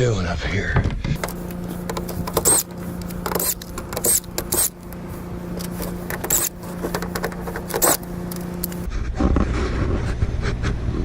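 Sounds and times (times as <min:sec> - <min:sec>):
low mechanical hum: 0:00.8 - 0:11.0.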